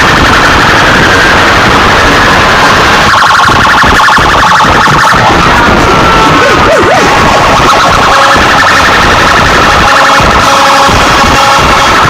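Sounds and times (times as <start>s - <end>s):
loud car stereo music with heavy bass: 0.0s - 12.0s.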